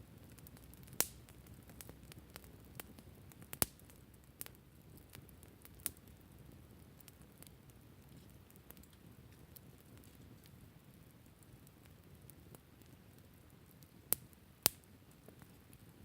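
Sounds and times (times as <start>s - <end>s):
burning wood crackling and popping: 0.0s - 16.0s
campfire flames rushing: 0.2s - 16.0s.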